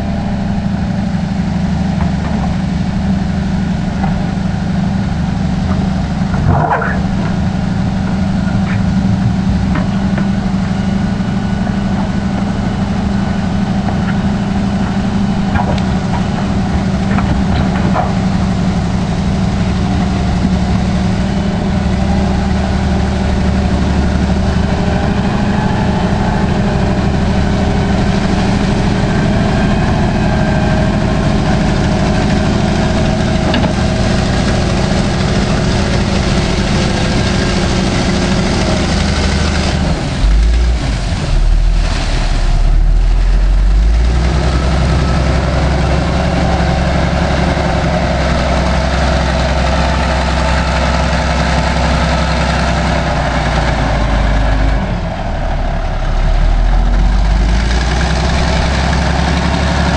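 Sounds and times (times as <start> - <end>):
wheel loader diesel engine running: 0.0 - 59.9.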